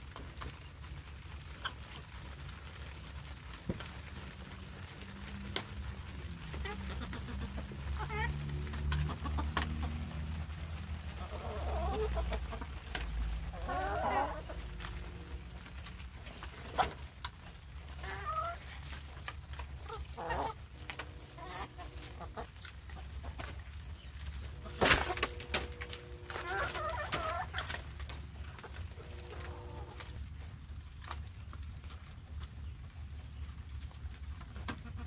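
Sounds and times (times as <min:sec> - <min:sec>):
hens clucking: 0:00.2 - 0:02.5, 0:03.1 - 0:32.7, 0:33.8 - 0:35.0.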